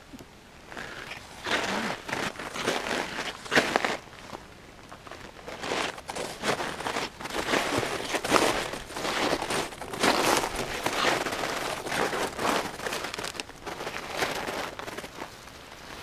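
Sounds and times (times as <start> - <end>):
snowshoes crunching on snow: 0.7 - 16.0.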